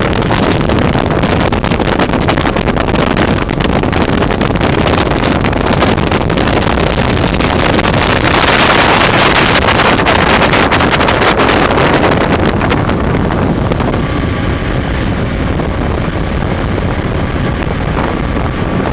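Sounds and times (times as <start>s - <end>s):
motorboat engine running: 0.0s - 18.9s
wind buffeting microphone: 0.0s - 18.9s.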